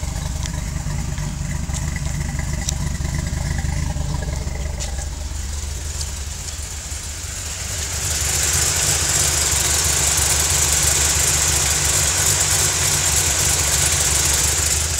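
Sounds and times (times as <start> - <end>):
car engine idling: 0.0 - 14.9
fast ticking hiss: 0.0 - 14.9.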